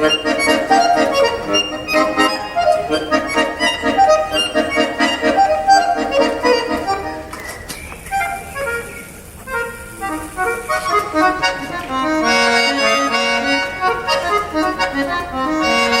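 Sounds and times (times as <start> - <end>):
accordion melody: 0.0 - 16.0.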